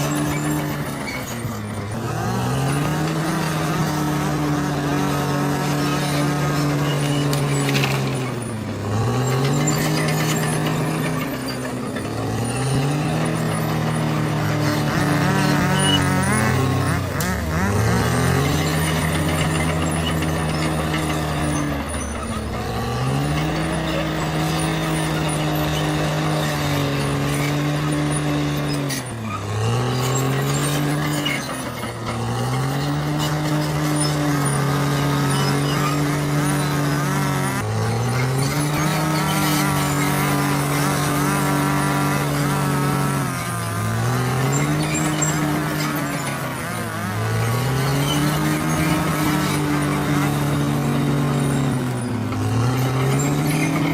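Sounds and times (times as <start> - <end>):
bulldozer diesel engine lugging: 0.0 - 53.9.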